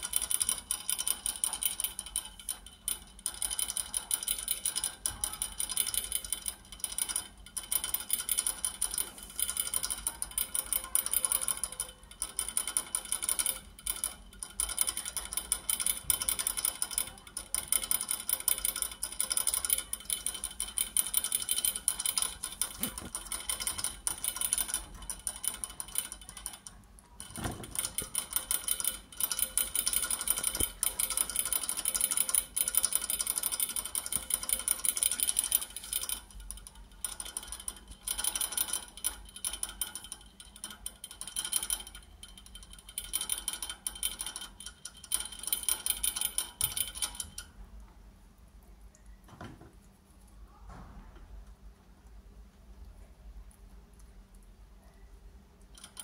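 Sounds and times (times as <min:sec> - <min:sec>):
rabbit gnawing on metal rod: 0:00.0 - 0:56.0.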